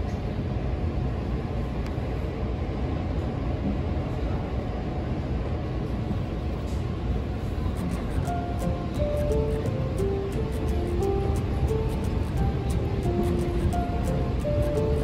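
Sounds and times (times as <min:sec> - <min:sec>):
train rumbling from inside: 0:00.0 - 0:15.0.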